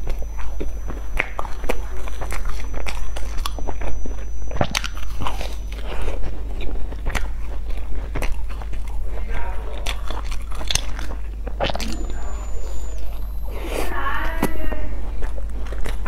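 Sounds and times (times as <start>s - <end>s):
pastry crackling: 0.0s - 16.0s
person chewing: 0.0s - 16.0s.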